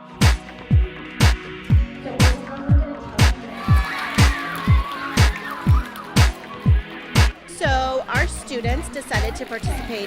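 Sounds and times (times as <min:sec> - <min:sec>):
kick drum: 0:00.2 - 0:09.8.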